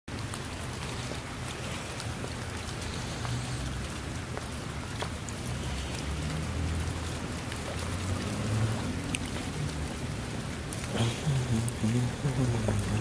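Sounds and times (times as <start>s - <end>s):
rain falling on puddle: 0.1s - 13.0s.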